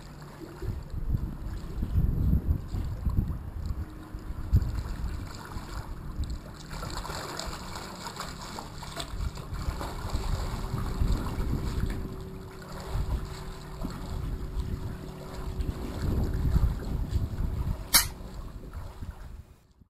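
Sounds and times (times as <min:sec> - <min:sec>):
wind buffeting microphone: 0:00.0 - 0:07.9, 0:08.6 - 0:19.9
water splashing from swimming: 0:02.6 - 0:19.4.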